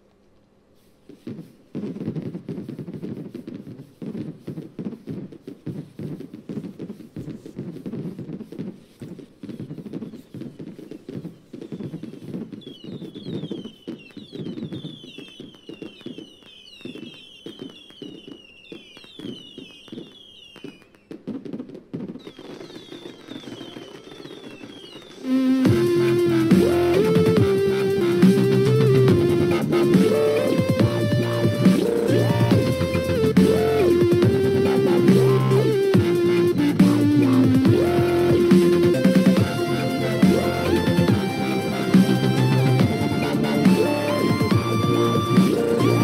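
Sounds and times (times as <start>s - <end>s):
fireworks popping and thudding: 0.0s - 46.0s
falling whistles: 1.3s - 21.5s, 22.2s - 46.0s.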